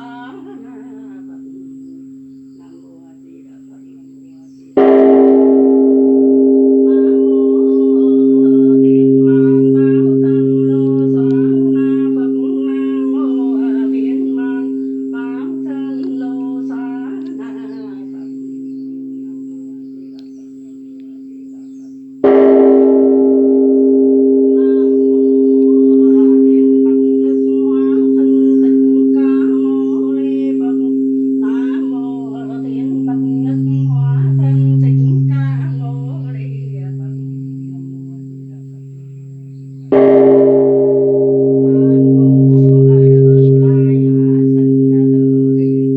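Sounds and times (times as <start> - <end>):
person chanting: 0.0 - 45.9
temple bell humming: 0.0 - 45.9.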